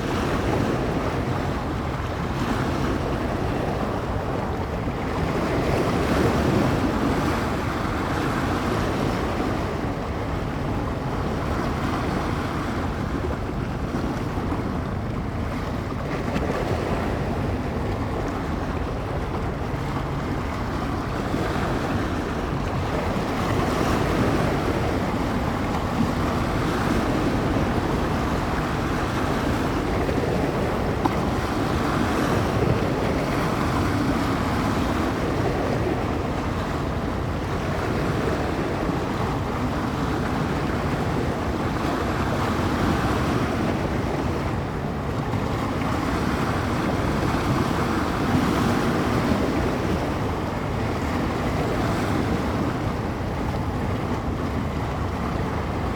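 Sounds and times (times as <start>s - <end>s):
waves breaking on shore: 0.0s - 55.9s
wind buffeting microphone: 0.0s - 55.9s.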